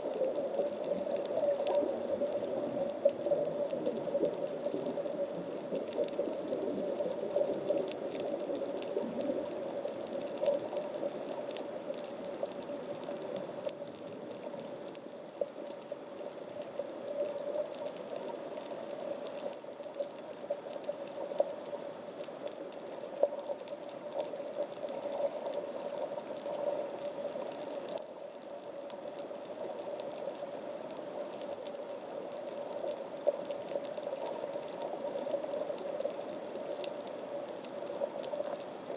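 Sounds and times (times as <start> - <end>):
faint crackling clicks: 0.0 - 38.9
muffled underwater hiss: 0.0 - 38.9.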